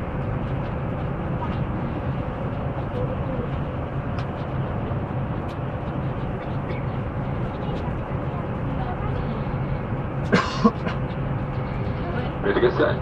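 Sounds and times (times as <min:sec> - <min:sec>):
air conditioning rush and hum: 0:00.0 - 0:13.0.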